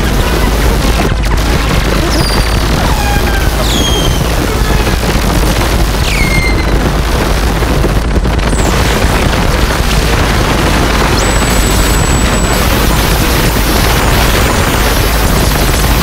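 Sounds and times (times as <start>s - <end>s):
electronic noise hiss and rumble: 0.0s - 16.0s.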